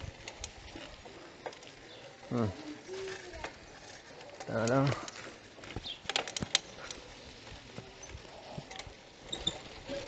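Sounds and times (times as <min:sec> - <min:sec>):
bicycle rattling over dirt road: 0:00.0 - 0:10.0.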